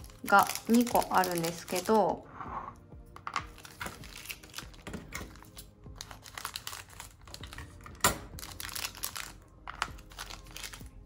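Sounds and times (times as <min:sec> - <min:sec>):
plastic bags crinkling: 0:00.0 - 0:02.1, 0:03.6 - 0:11.0.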